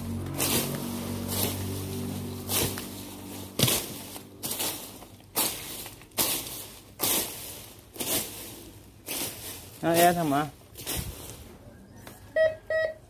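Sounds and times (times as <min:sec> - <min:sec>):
crunching strikes on ground: 0:00.3 - 0:11.4.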